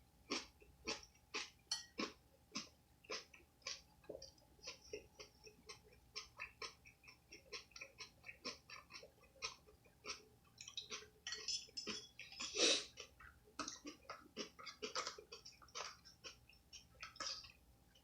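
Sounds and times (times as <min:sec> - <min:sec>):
wet chewing and smacking: 0:00.3 - 0:18.0.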